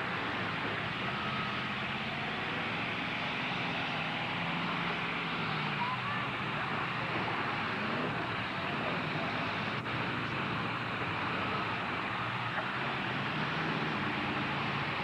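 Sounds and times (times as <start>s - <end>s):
truck engines running: 0.0s - 15.0s.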